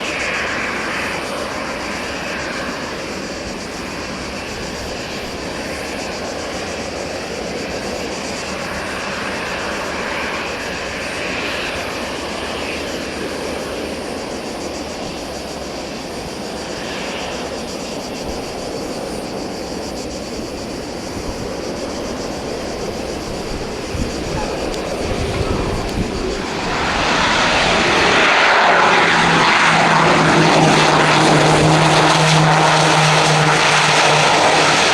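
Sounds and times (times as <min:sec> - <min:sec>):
low propeller hum: 0:00.0 - 0:34.9
turboprop aircraft landing: 0:00.0 - 0:34.9.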